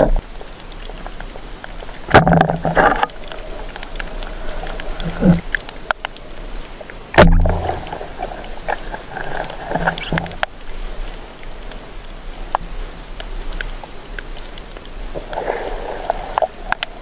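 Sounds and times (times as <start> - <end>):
underwater clicks and crackles: 0.0 - 17.0
underwater hiss: 0.3 - 17.0.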